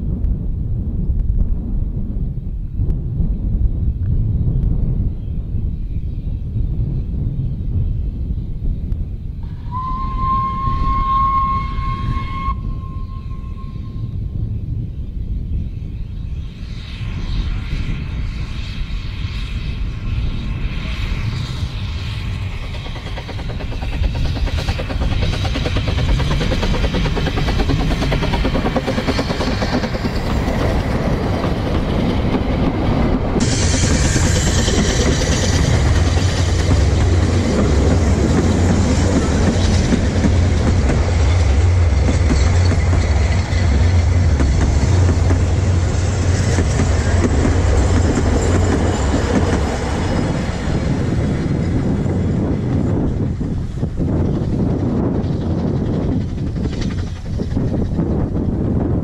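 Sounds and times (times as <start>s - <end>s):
train coaches rumbling by: 9.4s - 14.6s, 15.7s - 59.0s.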